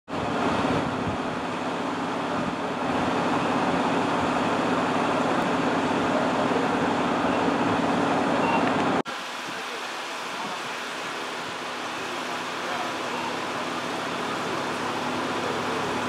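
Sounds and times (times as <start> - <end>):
diesel engine idling: 0.2 - 8.5, 11.0 - 16.0.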